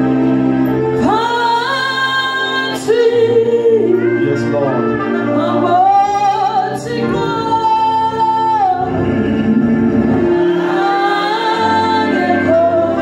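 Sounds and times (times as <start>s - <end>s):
sustained instrumental backing: 0.0s - 13.0s.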